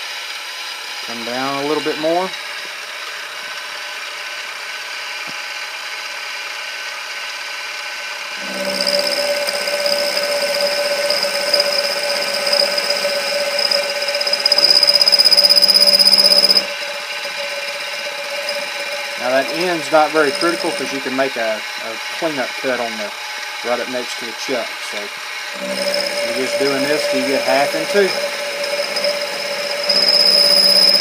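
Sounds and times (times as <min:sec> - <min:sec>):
cutter whine on metal: 0:00.0 - 0:31.0
milling machine running: 0:00.4 - 0:31.0.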